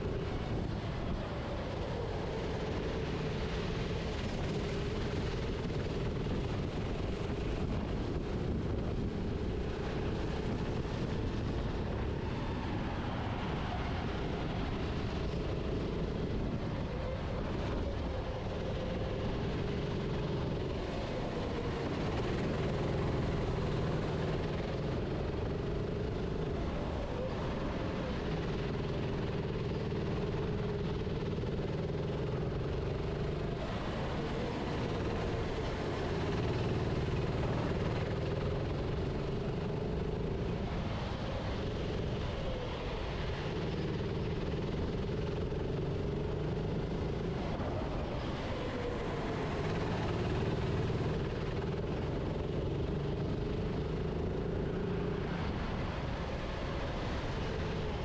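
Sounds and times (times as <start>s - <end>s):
kart engine running at speed: 0.0s - 58.0s.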